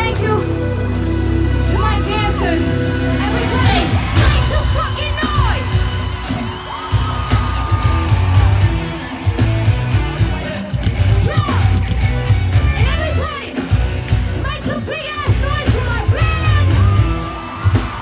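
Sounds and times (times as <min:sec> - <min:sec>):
fans yelling and singing along: 0:00.0 - 0:18.0
loud pop music with pulsing bass: 0:00.0 - 0:18.0.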